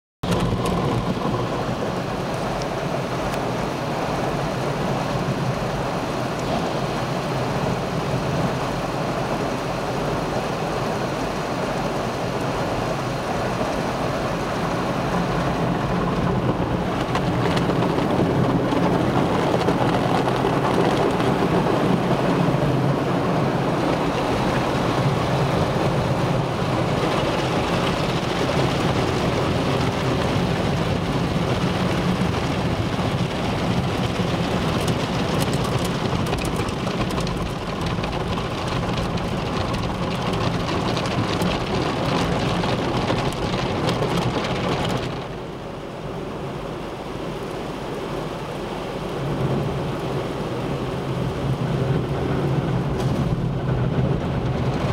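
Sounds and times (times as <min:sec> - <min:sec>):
water spraying on car: 0:00.3 - 0:54.9.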